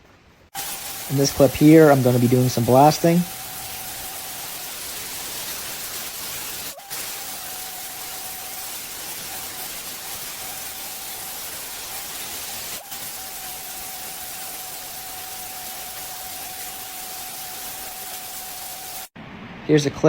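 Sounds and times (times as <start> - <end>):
abrasive blasting hiss: 0.6 - 19.2.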